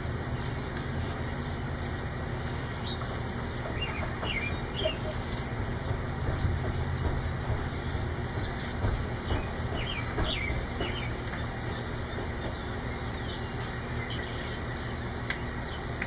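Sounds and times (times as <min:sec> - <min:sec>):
low continuous rumble: 0:00.0 - 0:16.0
rain hiss: 0:00.0 - 0:16.0
small birds chirping: 0:00.4 - 0:16.0.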